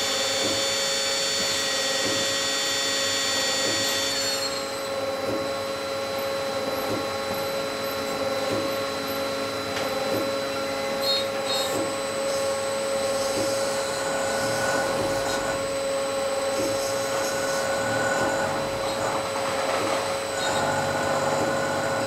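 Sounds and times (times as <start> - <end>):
lathe mechanical whine: 0.0 - 22.0.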